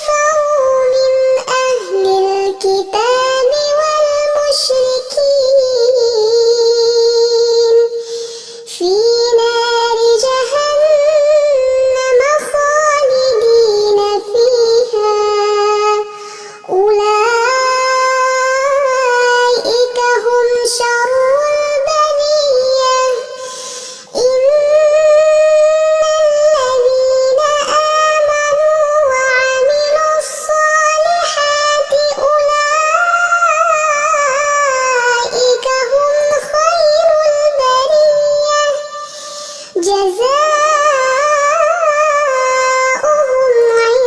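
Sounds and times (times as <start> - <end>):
high voice chanting recitation: 0.0 - 44.0.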